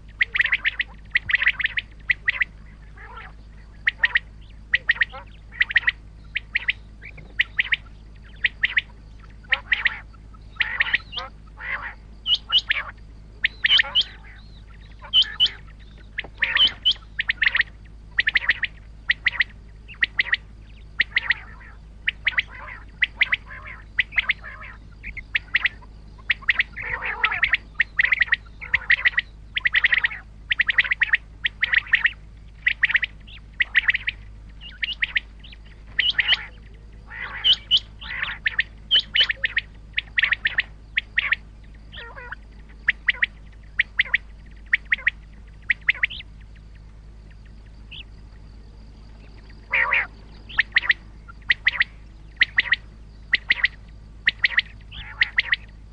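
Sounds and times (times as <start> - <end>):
faint low hum: 0.0 - 55.9
quail calling: 0.0 - 55.9.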